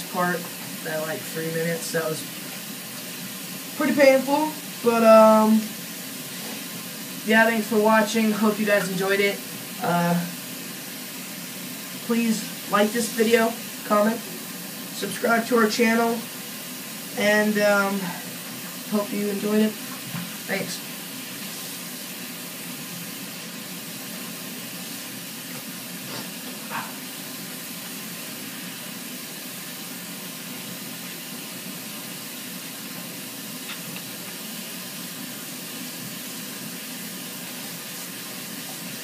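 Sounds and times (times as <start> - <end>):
faucet running water over hands: 0.0 - 39.0.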